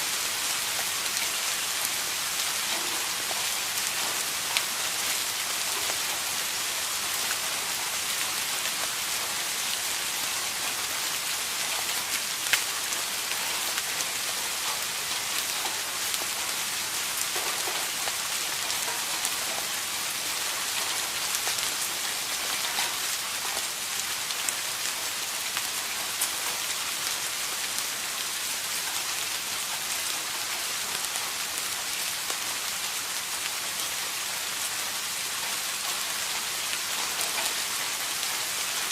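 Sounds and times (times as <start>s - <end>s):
rain hissing: 0.0s - 38.9s
raindrops ticking on a surface: 0.0s - 38.9s.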